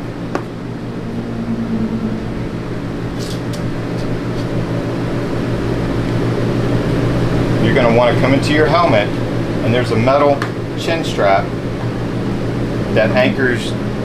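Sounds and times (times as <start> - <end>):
fan hum: 0.0 - 14.0.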